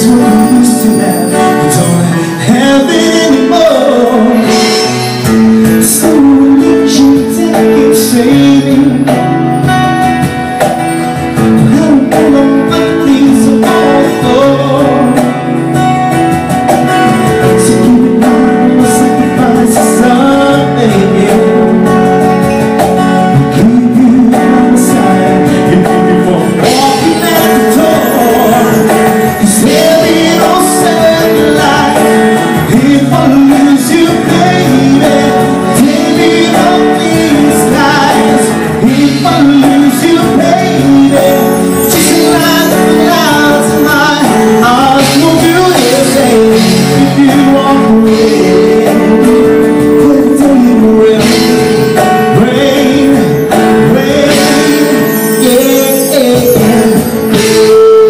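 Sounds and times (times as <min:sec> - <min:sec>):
drums: 0:00.0 - 0:58.0
guitar: 0:00.0 - 0:58.0
man singing pop ballad: 0:00.0 - 0:58.0.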